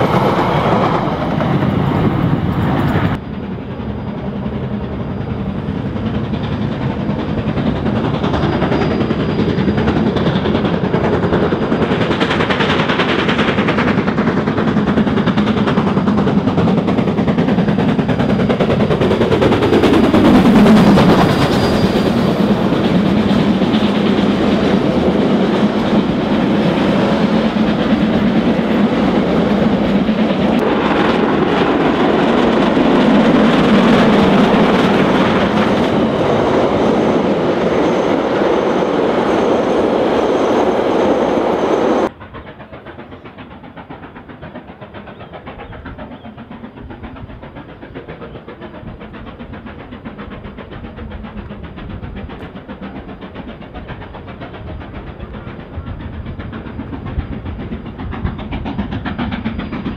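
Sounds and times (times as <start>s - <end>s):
train carriages rumbling past: 0.0s - 59.9s.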